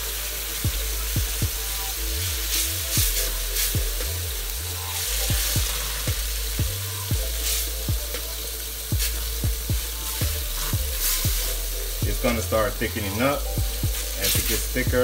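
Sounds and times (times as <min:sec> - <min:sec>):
gravy sizzling in a skillet: 0:00.0 - 0:15.0
music with thumping bass beat: 0:00.0 - 0:15.0.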